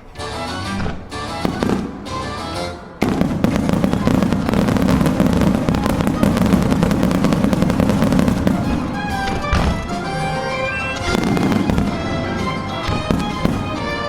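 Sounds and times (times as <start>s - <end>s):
music playing: 0.0s - 14.0s
fireworks bursting and crackling: 1.3s - 14.0s.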